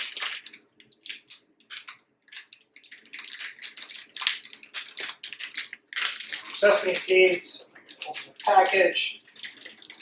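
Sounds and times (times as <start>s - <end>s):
plastic package crinkling: 0.0s - 10.0s.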